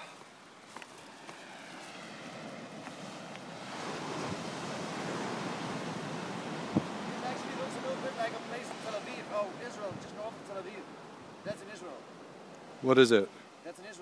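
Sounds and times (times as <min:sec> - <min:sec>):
ocean surf breaking: 0:01.0 - 0:14.0.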